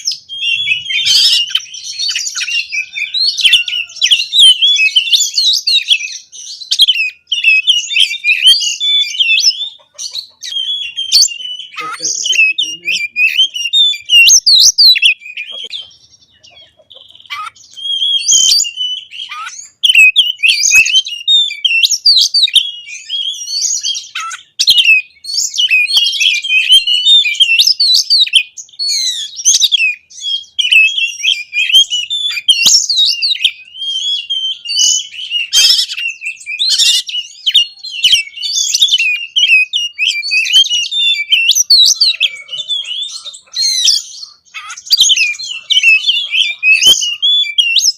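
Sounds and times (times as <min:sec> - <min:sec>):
magpie-robin singing: 0:00.0 - 0:47.9.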